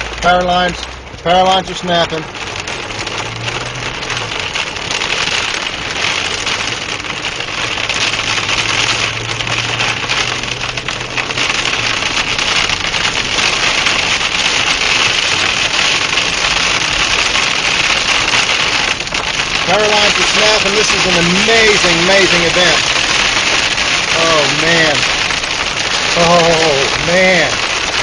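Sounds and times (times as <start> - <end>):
low engine hum: 0.0 - 28.0
wind-driven rain on a vehicle: 0.0 - 28.0.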